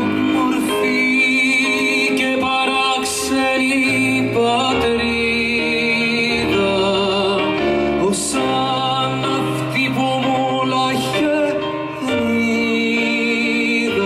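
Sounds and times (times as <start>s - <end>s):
keyboard: 0.0s - 14.0s
people singing with vibrato: 0.0s - 14.0s.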